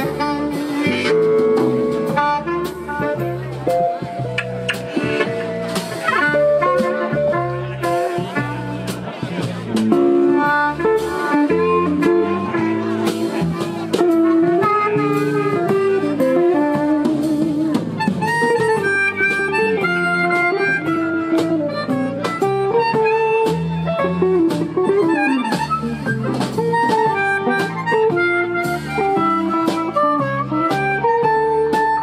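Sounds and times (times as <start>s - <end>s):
harmonica lead with bent notes: 0.0s - 32.0s
live blues band: 0.0s - 32.0s.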